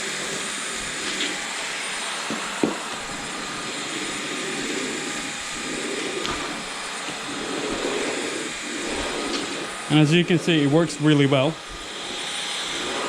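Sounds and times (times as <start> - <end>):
stick vacuum running: 0.0 - 13.0.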